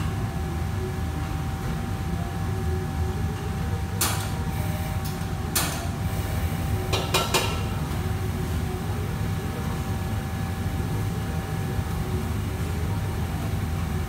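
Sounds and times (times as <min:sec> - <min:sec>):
range hood drone: 0:00.0 - 0:14.0.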